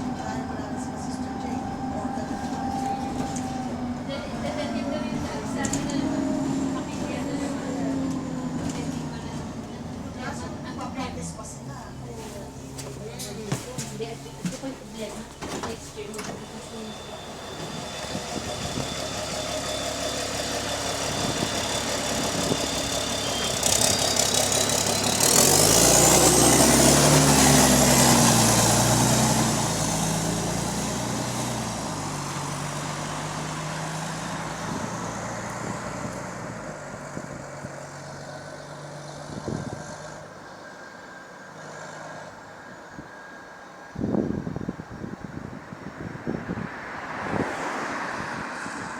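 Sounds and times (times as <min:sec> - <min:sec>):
bus engine whining: 0:00.0 - 0:48.9.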